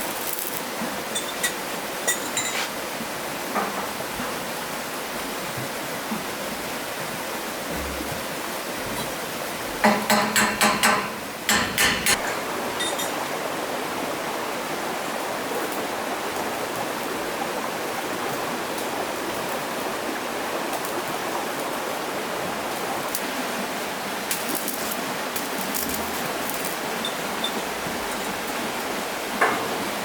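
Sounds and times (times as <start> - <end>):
stream water rushing: 0.0 - 11.6, 12.2 - 30.0.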